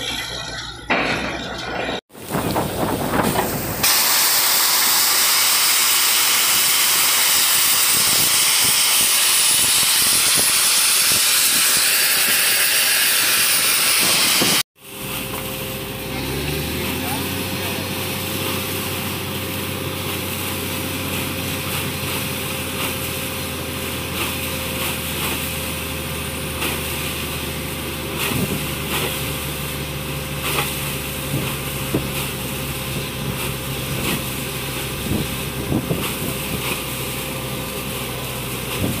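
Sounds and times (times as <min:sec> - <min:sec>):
drilling rig engine drone: 0:00.0 - 0:39.0.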